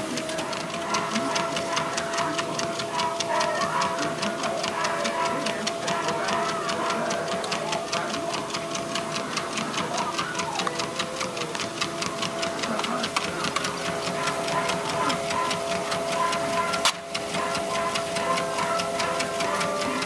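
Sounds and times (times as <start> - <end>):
dog feet trotting on belt: 0.0 - 20.0
treadmill motor hum: 0.0 - 20.0.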